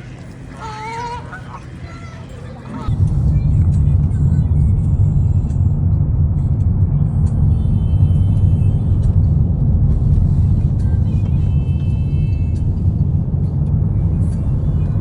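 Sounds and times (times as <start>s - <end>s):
car rumbling on the move: 0.0s - 15.0s
faint music: 0.0s - 15.0s.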